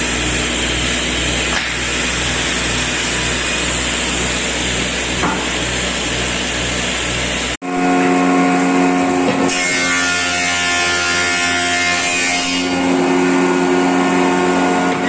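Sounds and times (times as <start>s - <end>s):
power tool humming: 0.0s - 15.0s
saw cutting wood: 0.0s - 15.0s.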